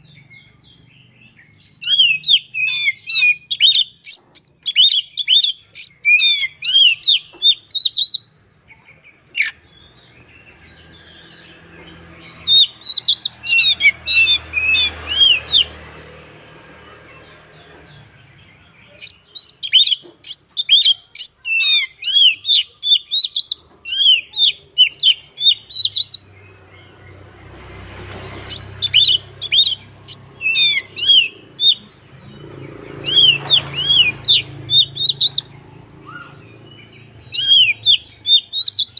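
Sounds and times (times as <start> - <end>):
bird singing chirps and whistles: 0.2 - 15.7, 18.6 - 27.1, 28.4 - 38.9.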